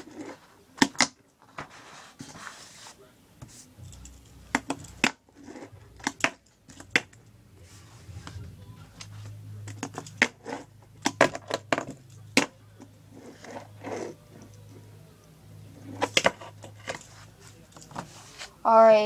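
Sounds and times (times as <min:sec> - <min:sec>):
low steady hum: 0:03.7 - 0:19.0.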